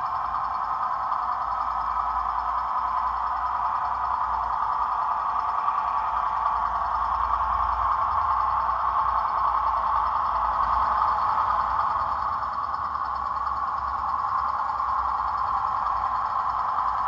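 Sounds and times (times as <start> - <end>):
model train diesel engine sound: 0.0 - 17.0.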